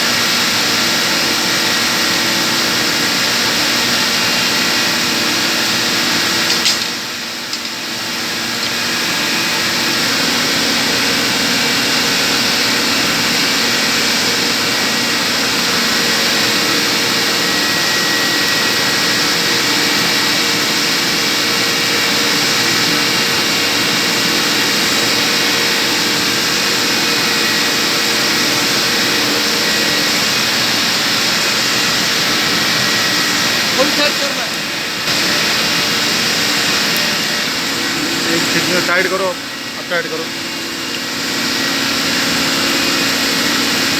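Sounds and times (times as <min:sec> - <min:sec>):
chiller machinery running: 0:00.0 - 0:43.9.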